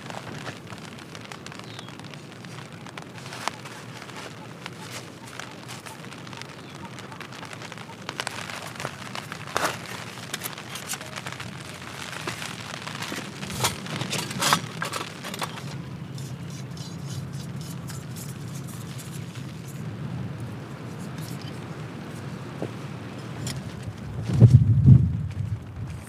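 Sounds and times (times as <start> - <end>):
rain tapping on tent: 0.0 - 26.0.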